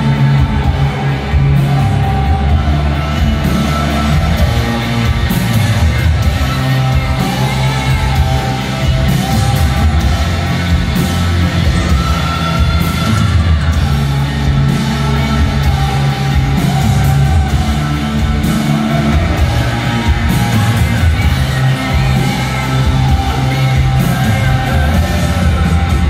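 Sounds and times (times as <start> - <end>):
bass guitar: 0.0 - 26.0
drums: 0.0 - 26.0
electric guitars: 0.0 - 26.0.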